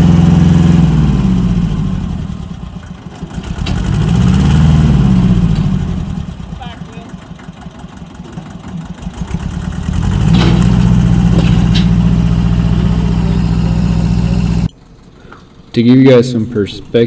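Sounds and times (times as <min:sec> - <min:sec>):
tractor engine running under load: 0:00.0 - 0:15.6.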